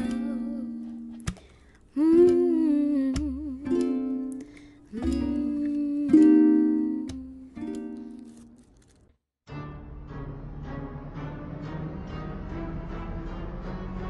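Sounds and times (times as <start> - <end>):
plucked string song: 0.0 - 8.7, 9.5 - 14.0.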